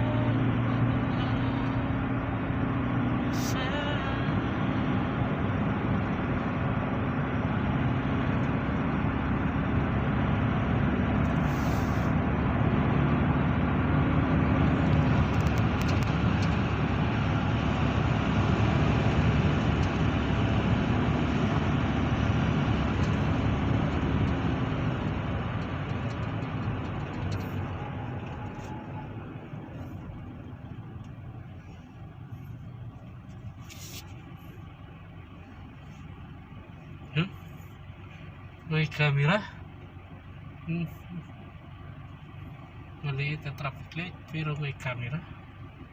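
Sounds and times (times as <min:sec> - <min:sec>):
car tyre and engine noise: 0:00.0 - 0:45.9.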